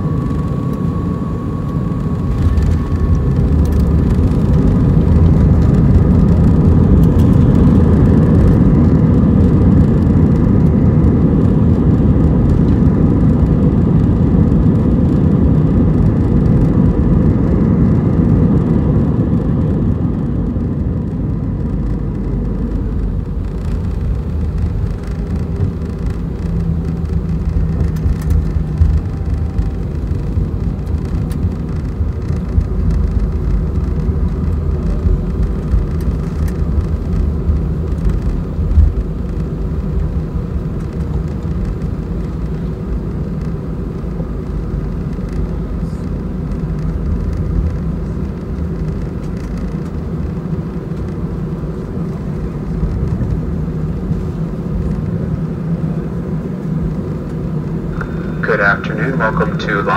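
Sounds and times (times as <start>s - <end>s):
jet engines and wheels rumbling: 0.0s - 59.9s.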